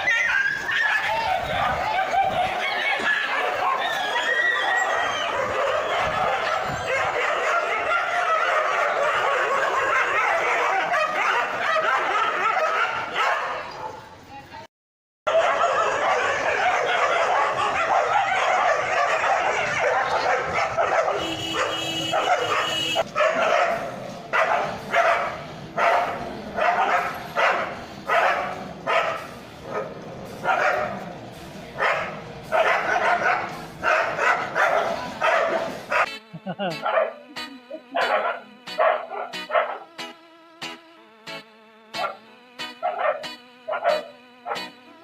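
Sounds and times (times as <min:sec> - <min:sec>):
dogs barking and yelping: 0:00.0 - 0:14.1, 0:15.3 - 0:31.1, 0:31.8 - 0:40.2, 0:41.9 - 0:45.0.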